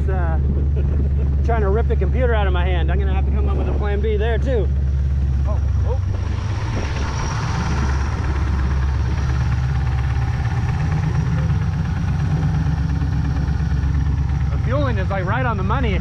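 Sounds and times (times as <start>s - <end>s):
boat engine running: 0.0s - 16.0s
wind: 0.0s - 16.0s.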